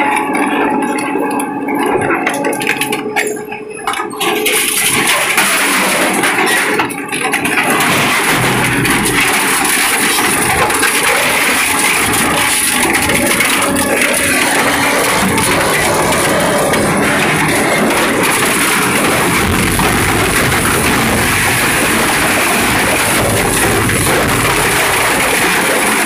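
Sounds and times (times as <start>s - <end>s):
metal shredder grinding and crunching: 0.0s - 26.0s.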